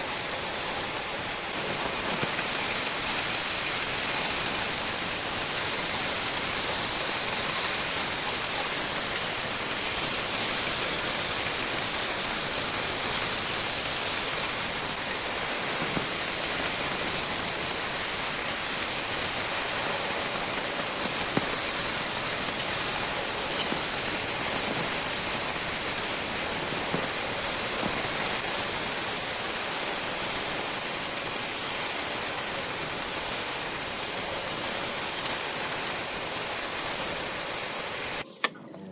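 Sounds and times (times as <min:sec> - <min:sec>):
steady high hiss: 0:00.0 - 0:38.3.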